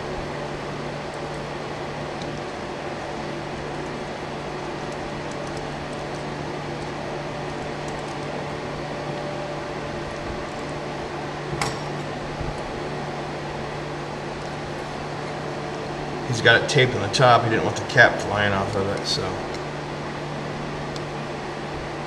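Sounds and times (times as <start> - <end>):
fan hum and hiss: 0.0 - 22.0.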